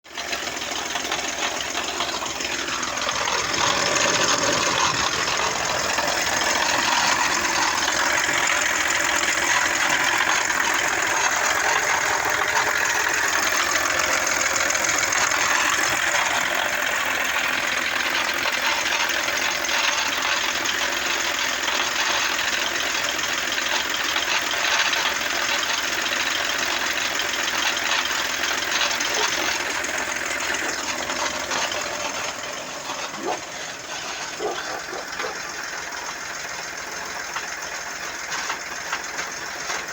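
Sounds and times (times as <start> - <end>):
diesel engine grinding and knocking: 0.0 - 39.9.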